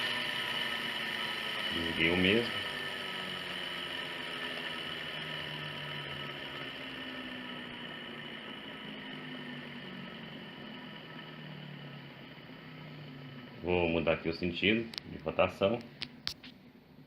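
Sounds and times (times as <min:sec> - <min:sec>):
motor whirring spinning down: 0:00.0 - 0:16.3
hissing bearing noise: 0:00.0 - 0:16.5.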